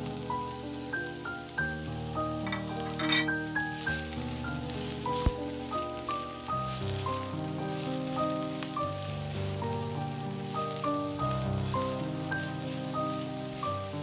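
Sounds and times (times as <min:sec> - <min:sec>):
onion and garlic sizzling in oil: 0:00.0 - 0:14.0
slow background music: 0:00.0 - 0:14.0.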